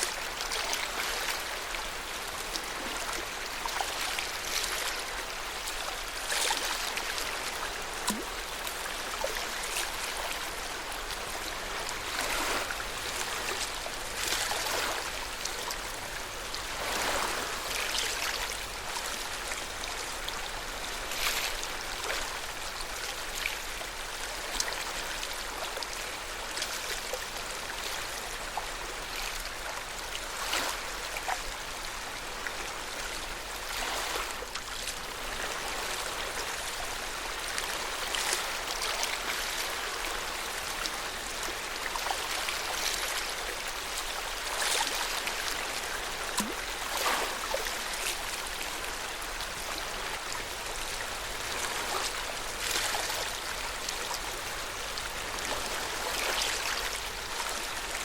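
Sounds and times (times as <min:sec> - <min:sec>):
small water splashes: 0:00.0 - 0:31.5, 0:32.4 - 0:58.0
water lapping: 0:00.0 - 0:58.0.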